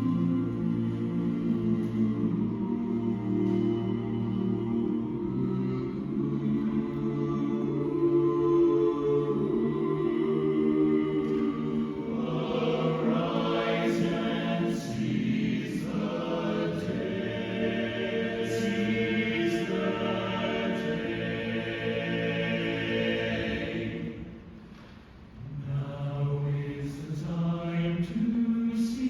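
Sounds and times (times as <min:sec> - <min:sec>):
a cappella chorus singing: 0:00.0 - 0:29.0.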